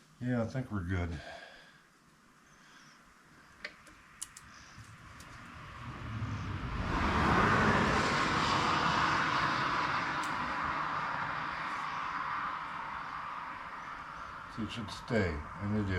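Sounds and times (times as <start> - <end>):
highway traffic rumble: 3.0 - 15.9.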